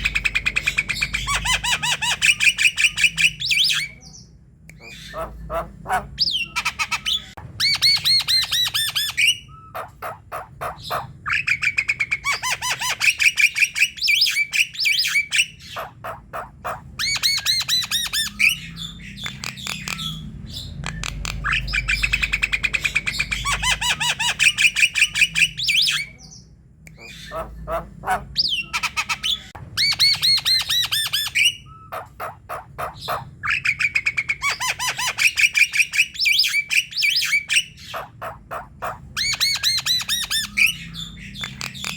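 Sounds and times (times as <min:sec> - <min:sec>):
bird chattering and squawking: 0:00.0 - 0:41.9.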